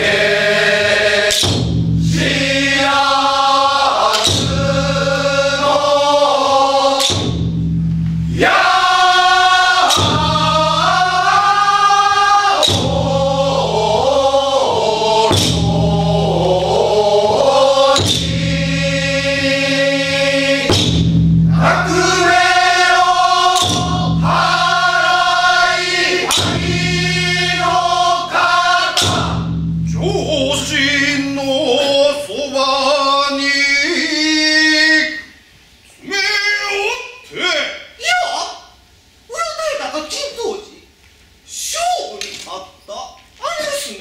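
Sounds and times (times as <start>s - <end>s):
men's chorus chanting a song: 0.0s - 35.4s.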